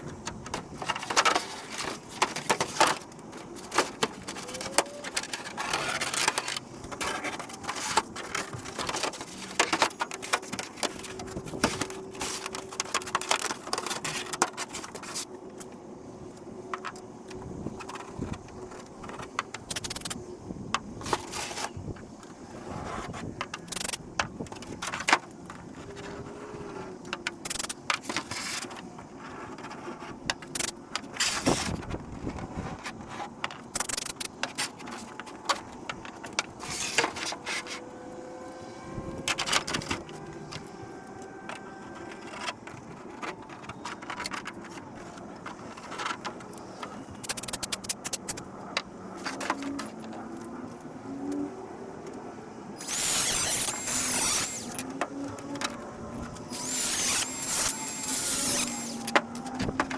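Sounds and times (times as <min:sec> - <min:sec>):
plastic parts clicking and tapping: 0:00.0 - 0:22.0, 0:26.9 - 0:37.8, 0:39.1 - 0:50.5, 0:52.8 - 0:59.9.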